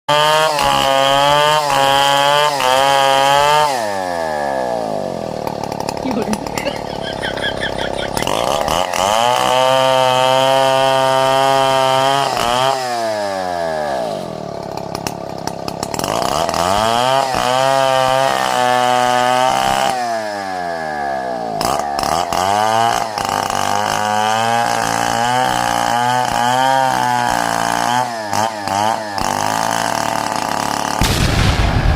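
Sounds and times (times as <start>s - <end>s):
chainsaw engine revving: 0.1s - 31.9s.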